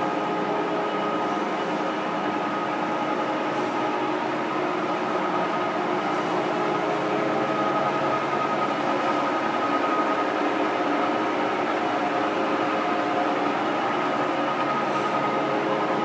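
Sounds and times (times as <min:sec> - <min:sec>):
lathe humming and whining: 0:00.0 - 0:16.0.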